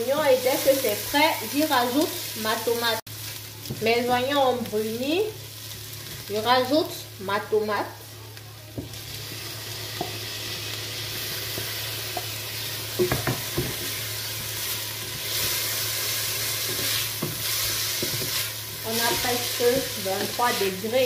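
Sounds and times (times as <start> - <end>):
onions sizzling in a pot: 0.0 - 21.0.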